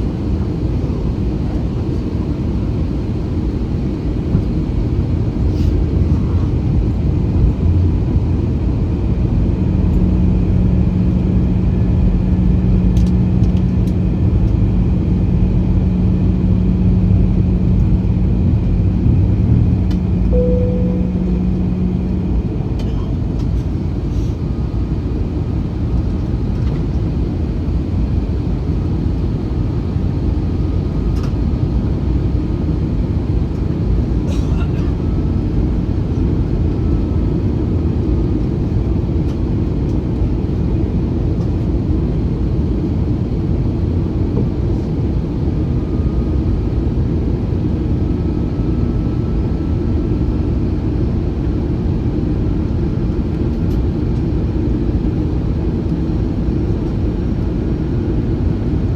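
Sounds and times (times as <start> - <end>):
airliner engine drone: 0.0 - 58.9.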